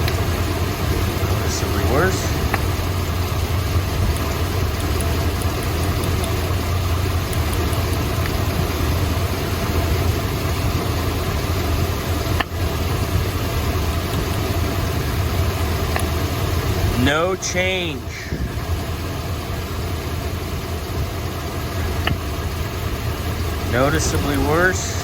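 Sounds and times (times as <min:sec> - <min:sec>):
car engine idling rough with misfire: 0:00.0 - 0:25.0.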